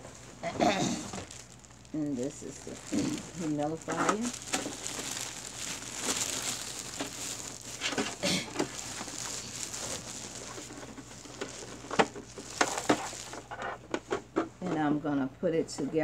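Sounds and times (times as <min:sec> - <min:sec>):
plastic wrapping rustling: 0:00.0 - 0:14.7.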